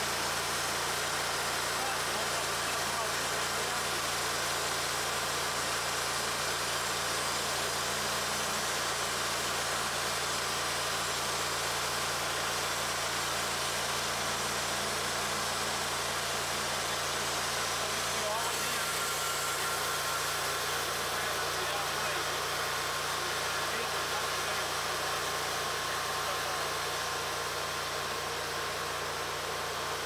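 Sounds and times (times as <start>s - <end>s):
band saw cutting log: 0.0s - 30.0s.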